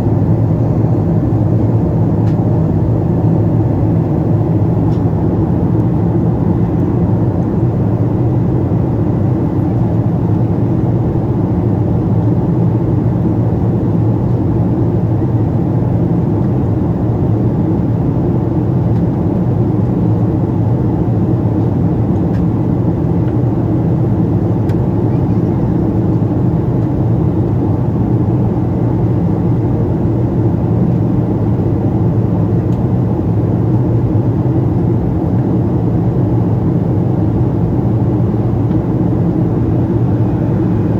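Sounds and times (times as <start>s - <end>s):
airplane cabin rush and engine hum: 0.0s - 40.9s.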